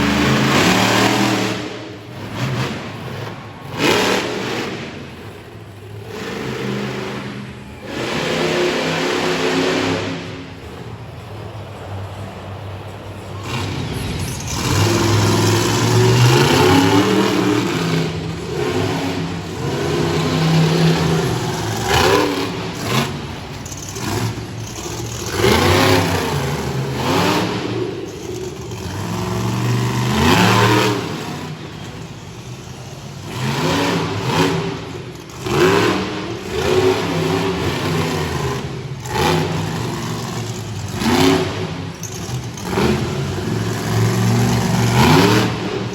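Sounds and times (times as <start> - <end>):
monster truck engine revving: 0.0 - 45.9.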